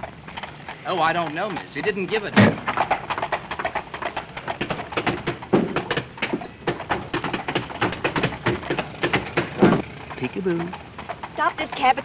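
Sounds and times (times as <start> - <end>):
horse hooves clattering: 0.0 - 12.0.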